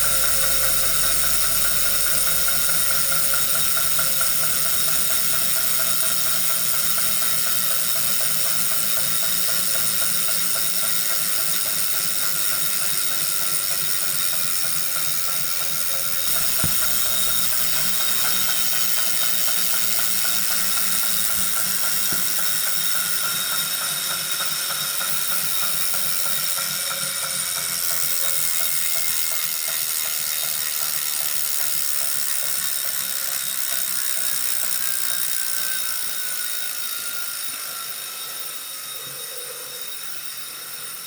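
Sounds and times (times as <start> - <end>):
flywheel whine: 0.0 - 41.0
ratchet-like clicking: 0.0 - 41.0.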